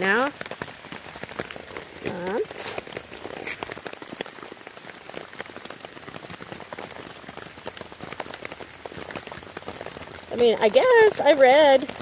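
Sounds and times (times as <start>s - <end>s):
rain drops ticking: 0.0s - 12.0s.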